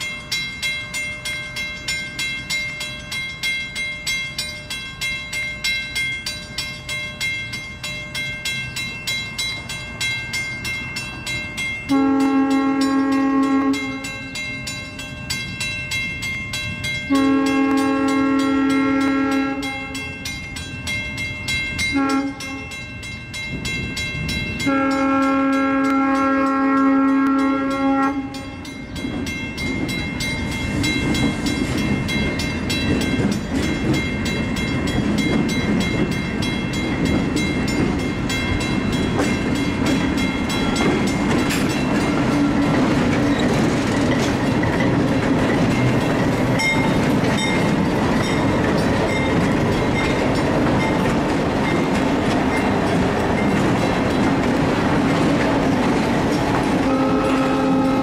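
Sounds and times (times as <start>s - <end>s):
boxcars clickety-clack on rails: 0.0s - 58.0s
diesel locomotive engines running: 0.0s - 58.0s.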